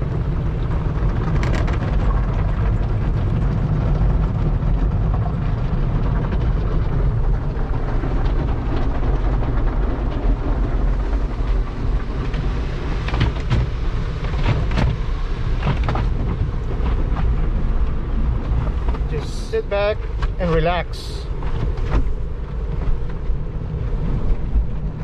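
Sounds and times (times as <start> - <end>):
car wash low rumble: 0.0 - 25.0.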